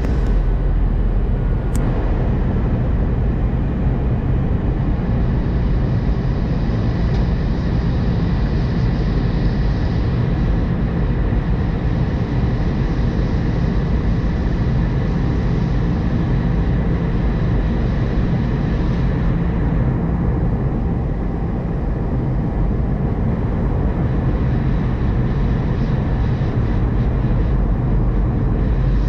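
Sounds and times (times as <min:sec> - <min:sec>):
airliner cabin roar: 0:00.0 - 0:29.0
faint high whine: 0:00.0 - 0:29.0.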